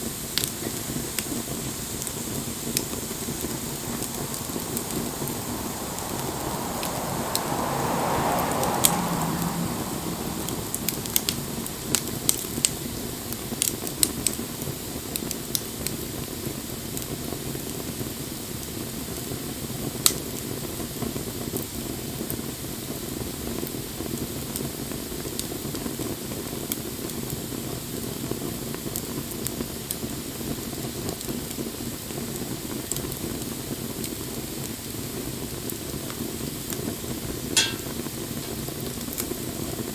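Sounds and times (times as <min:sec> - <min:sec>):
fire crackles and pops: 0:00.0 - 0:39.9
wood fire hissing: 0:00.0 - 0:39.9.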